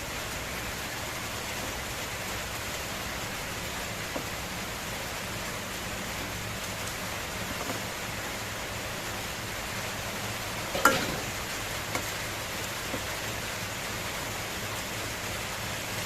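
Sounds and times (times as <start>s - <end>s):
eggs sizzling in a pan: 0.4s - 15.6s.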